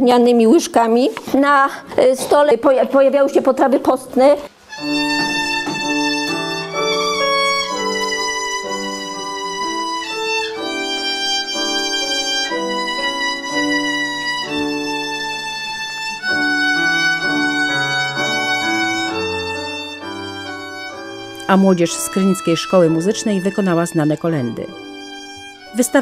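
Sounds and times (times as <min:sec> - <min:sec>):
lower accompaniment: 0:04.7 - 0:26.0
violin carol melody: 0:04.7 - 0:26.0.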